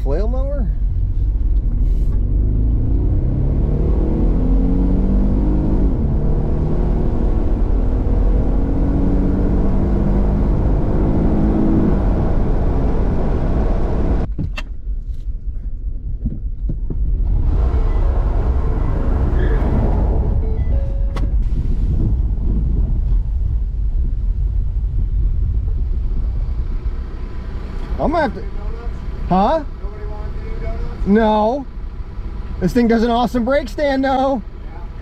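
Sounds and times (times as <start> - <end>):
car engine accelerating: 0.7 - 14.3, 17.0 - 35.0.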